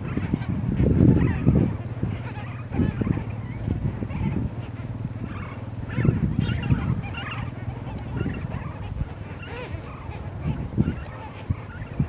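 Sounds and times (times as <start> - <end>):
flamingos calling: 0.0 - 12.0.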